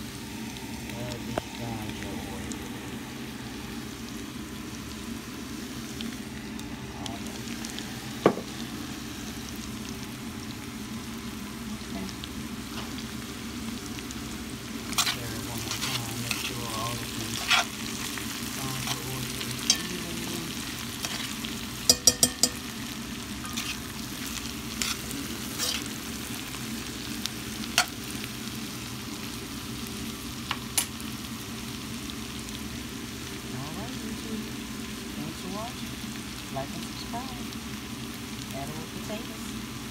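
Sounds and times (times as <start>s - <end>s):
potatoes sizzling in a pan: 0.0s - 39.9s.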